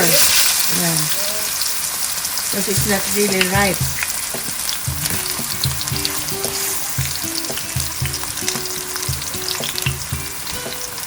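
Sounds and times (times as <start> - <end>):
frying oil sizzling and popping: 0.0 - 11.0.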